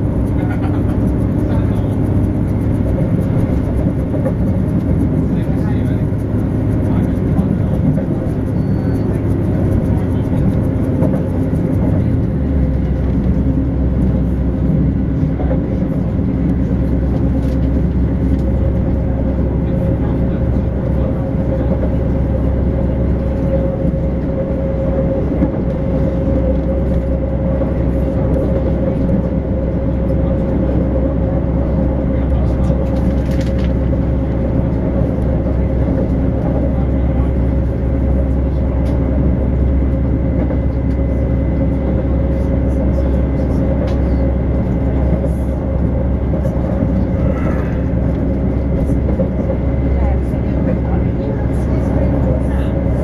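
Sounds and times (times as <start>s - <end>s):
train rumble inside carriage: 0.0s - 53.0s.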